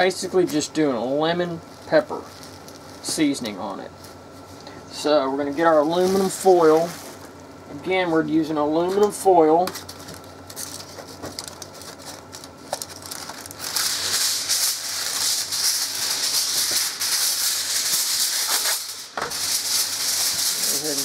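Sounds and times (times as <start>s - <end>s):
aluminum foil crinkling: 0.0s - 4.6s, 5.4s - 7.5s, 9.7s - 21.0s.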